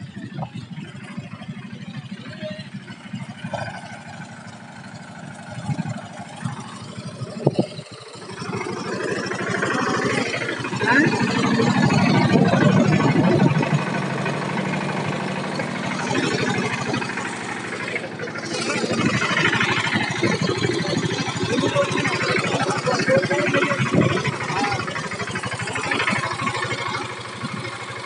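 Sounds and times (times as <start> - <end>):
tractor diesel engine chugging: 0.0 - 28.0.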